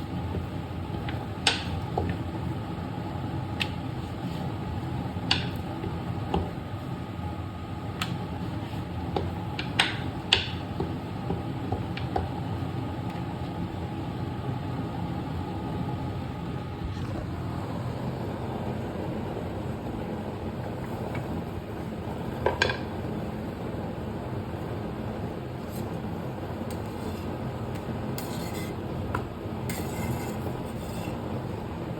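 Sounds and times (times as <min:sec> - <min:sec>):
low kitchen hum: 0:00.0 - 0:31.9.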